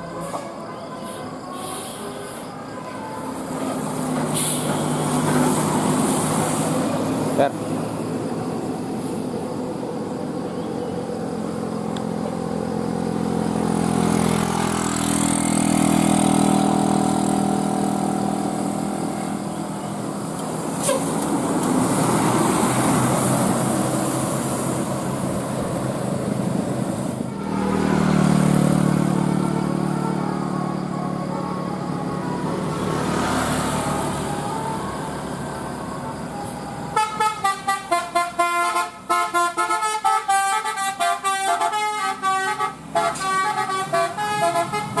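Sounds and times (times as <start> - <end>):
road vehicles passing by: 0.0 - 45.0.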